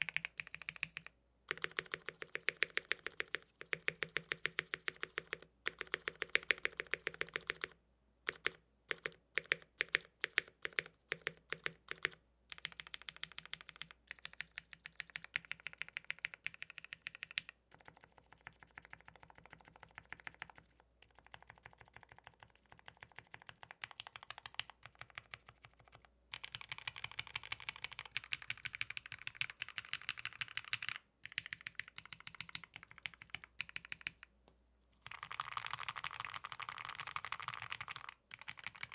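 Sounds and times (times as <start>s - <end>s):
mechanical keyboard typing: 0.0s - 34.3s, 35.0s - 38.9s.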